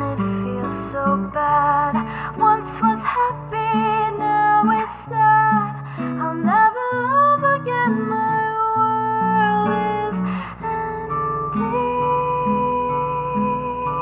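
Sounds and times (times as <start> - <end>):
plucked acoustic guitar: 0.0 - 14.0.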